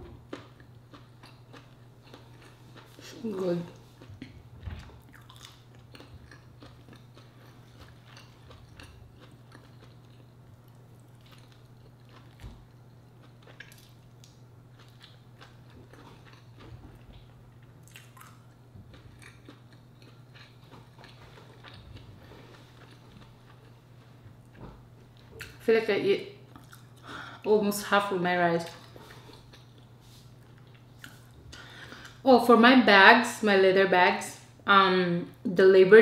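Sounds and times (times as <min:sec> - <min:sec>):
person chewing food: 0:00.0 - 0:25.6, 0:26.5 - 0:27.4, 0:28.7 - 0:32.2
steady low hum: 0:00.0 - 0:36.0.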